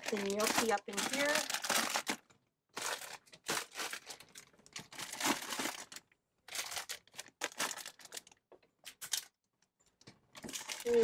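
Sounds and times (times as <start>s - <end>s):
plastic packets crinkling: 0.0s - 9.4s, 10.3s - 11.0s.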